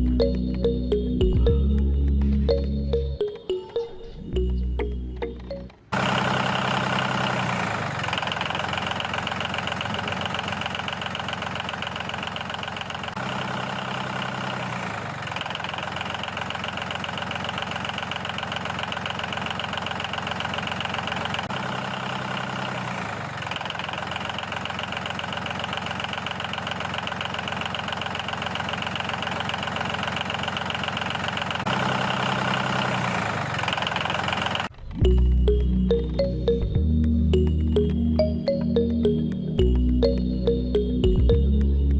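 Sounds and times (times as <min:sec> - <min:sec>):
engine running: 0:00.0 - 0:03.6, 0:04.2 - 0:41.9
lower engine note: 0:00.0 - 0:25.5, 0:31.6 - 0:41.9.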